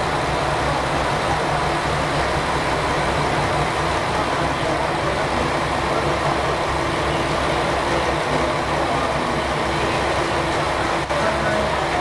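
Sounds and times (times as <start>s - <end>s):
diesel train engines running: 0.0s - 12.0s.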